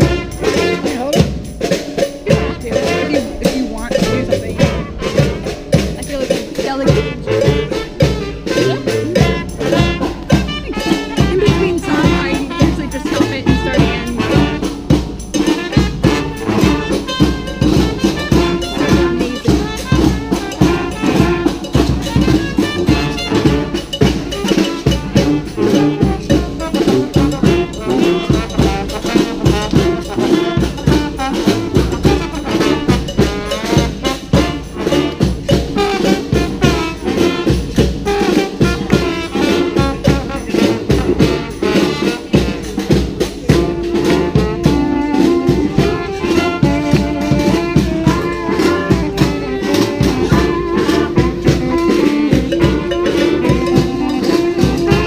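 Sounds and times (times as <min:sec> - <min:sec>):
brass street band playing cumbia: 0:00.0 - 0:55.0
drums beating: 0:00.0 - 0:55.0
trumpets and trombones: 0:00.0 - 0:55.0.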